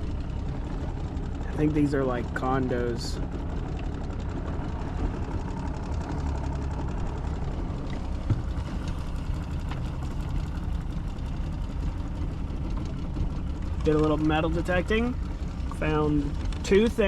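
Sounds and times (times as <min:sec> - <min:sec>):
boat motor rumble: 0:00.0 - 0:17.0.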